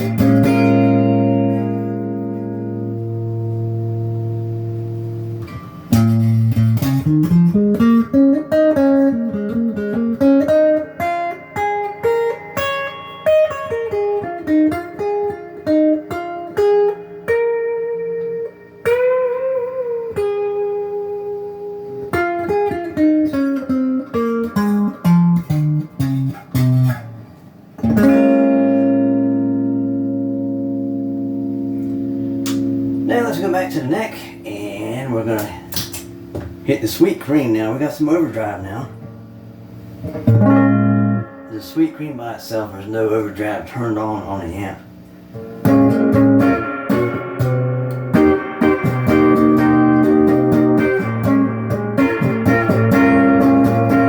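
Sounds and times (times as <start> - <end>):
clean electric guitar: 0.0 - 54.0.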